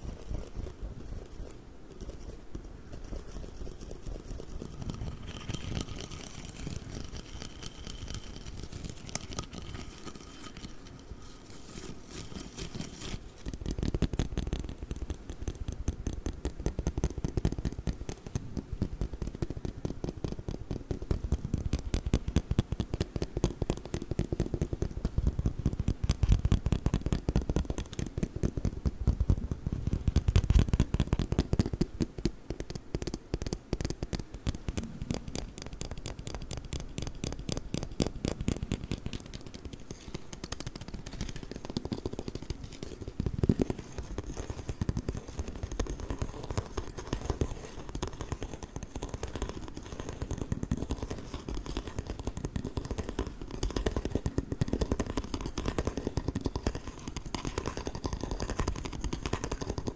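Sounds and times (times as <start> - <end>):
tapping and scratching on ruler: 0.0 - 59.9.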